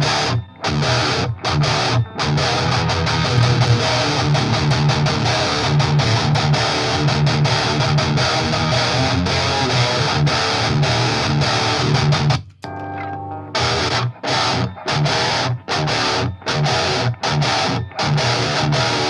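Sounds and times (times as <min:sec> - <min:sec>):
distorted electric guitar riff: 0:00.0 - 0:19.0
guitar chord ringing: 0:00.0 - 0:19.0.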